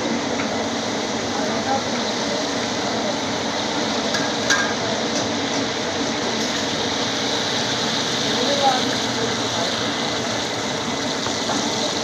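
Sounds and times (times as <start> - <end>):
meat sizzling on griddle: 0.0 - 12.0.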